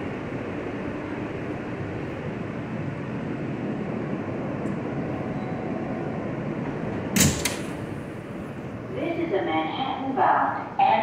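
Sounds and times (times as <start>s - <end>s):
loud burst of train noise: 0.0s - 11.0s
subway train wheels rumbling: 0.0s - 11.0s.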